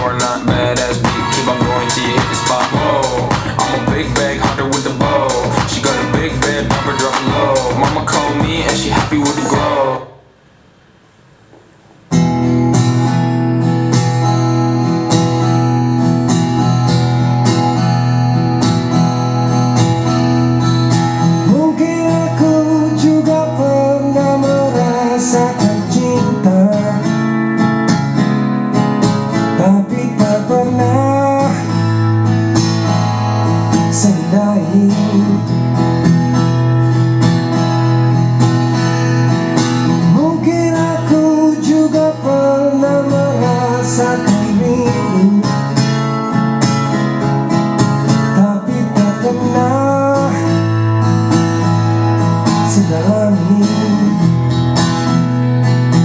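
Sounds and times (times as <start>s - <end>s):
acoustic guitar music with singing: 0.0s - 10.4s, 11.5s - 56.0s.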